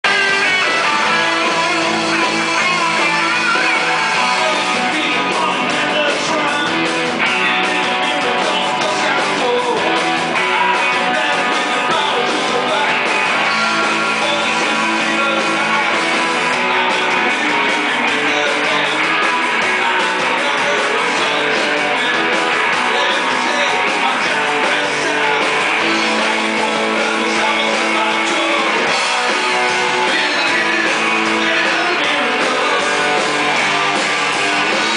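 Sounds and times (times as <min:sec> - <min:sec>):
live rock band: 0:00.0 - 0:34.9.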